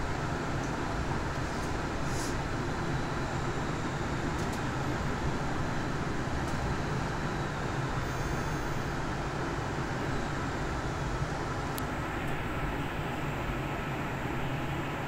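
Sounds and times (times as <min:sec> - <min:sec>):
metro train rumble and hiss: 0:00.0 - 0:15.0.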